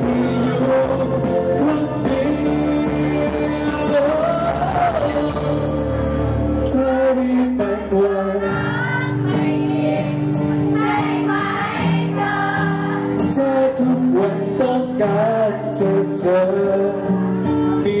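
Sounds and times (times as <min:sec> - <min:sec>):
singing through loudspeakers: 0:00.0 - 0:18.0.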